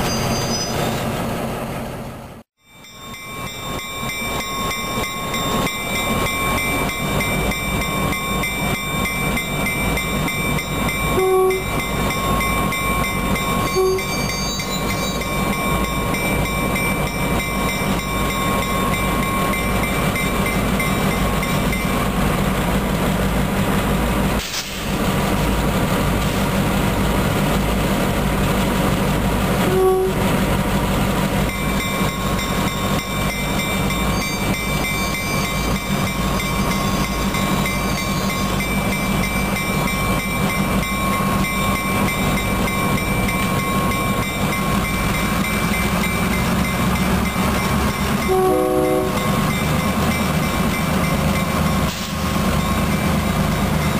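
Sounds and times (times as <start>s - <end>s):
diesel locomotives rolling past: 0.0s - 53.9s.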